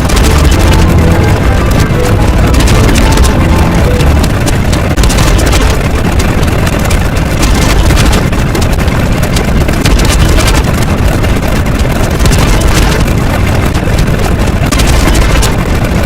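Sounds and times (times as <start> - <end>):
engine-like rumble crackling: 0.0 - 16.0.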